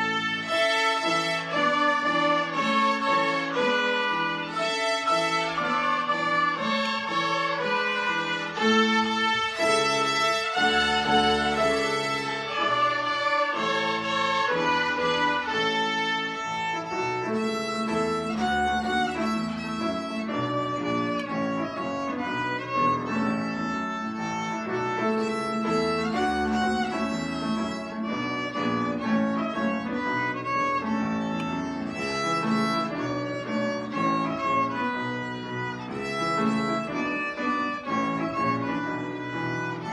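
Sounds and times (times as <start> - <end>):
piano accompaniment: 0.0 - 39.9
violin ensemble playing: 0.0 - 39.9.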